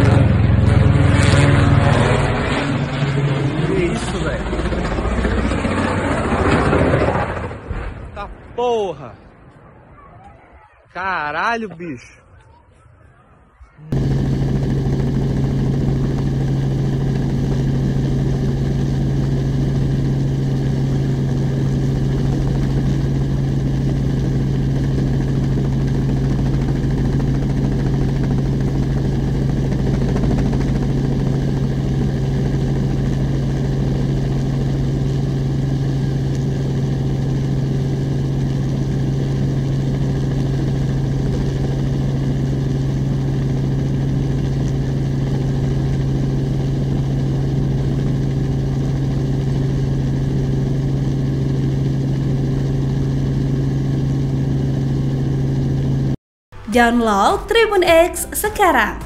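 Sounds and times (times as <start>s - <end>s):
helicopter engine and rotor drone: 0.0s - 9.6s, 10.2s - 12.6s, 13.8s - 56.2s.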